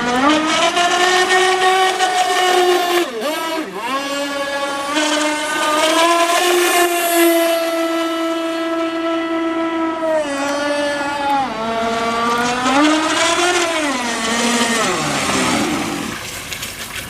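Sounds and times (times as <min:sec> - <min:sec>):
two-stroke engine at high revs: 0:00.0 - 0:16.3.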